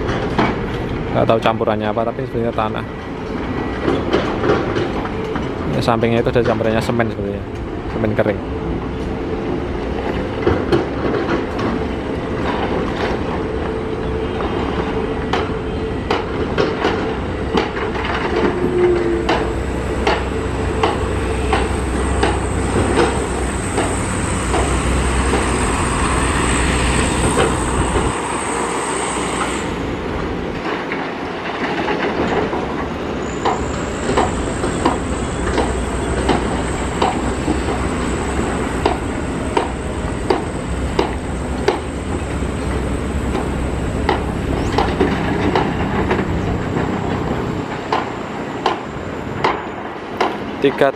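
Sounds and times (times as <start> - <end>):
diesel engines rumbling: 0.0 - 50.9.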